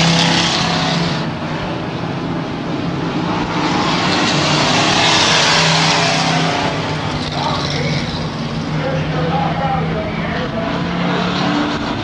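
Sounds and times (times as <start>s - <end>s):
racing truck engines passing: 0.0s - 12.0s.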